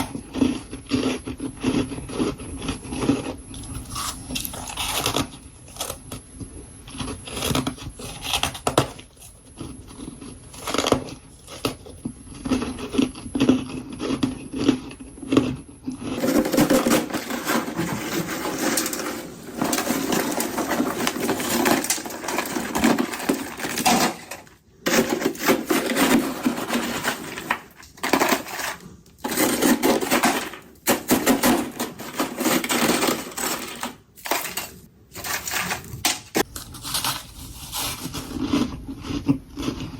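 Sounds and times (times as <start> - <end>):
chewing crunchy frost: 0.0 - 30.9, 36.4 - 39.9.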